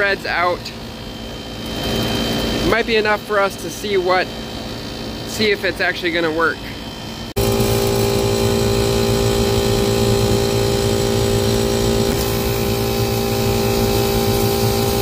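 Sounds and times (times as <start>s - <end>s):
hvac machinery humming: 0.0s - 15.0s.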